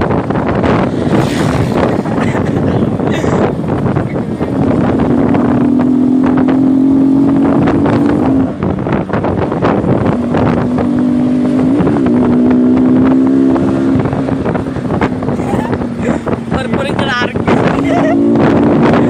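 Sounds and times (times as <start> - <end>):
motorcycle engine revving high: 0.0 - 19.0
wind noise on microphone: 0.0 - 19.0.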